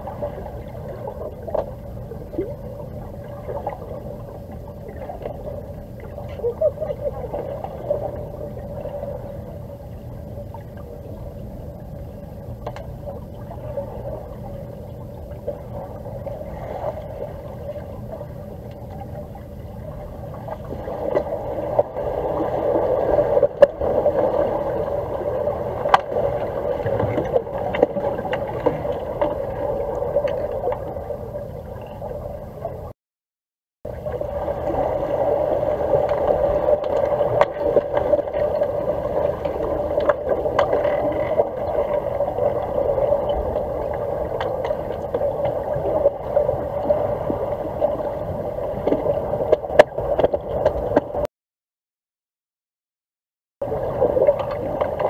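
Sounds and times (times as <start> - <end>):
underwater crackling: 0.0 - 32.9, 33.9 - 51.3, 53.6 - 55.0
underwater hum: 0.0 - 33.0, 33.9 - 51.3, 53.6 - 55.0.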